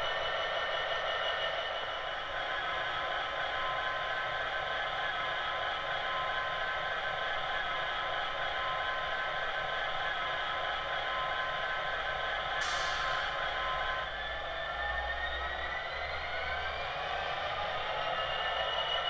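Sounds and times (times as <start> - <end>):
tinny diesel engine idling sound: 0.0 - 19.0.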